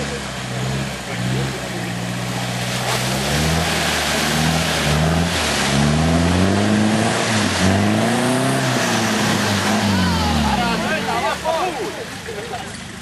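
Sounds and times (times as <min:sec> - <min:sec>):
off-road vehicle engine revving: 0:00.0 - 0:13.0
spraying mud and water: 0:00.0 - 0:13.0.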